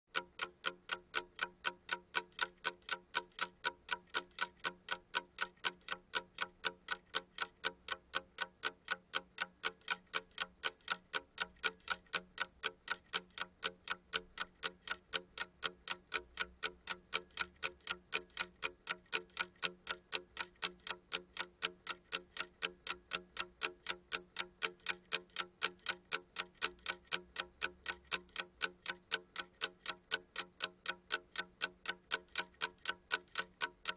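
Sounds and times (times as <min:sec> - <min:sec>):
alarm clock ticking: 0:00.1 - 0:33.9.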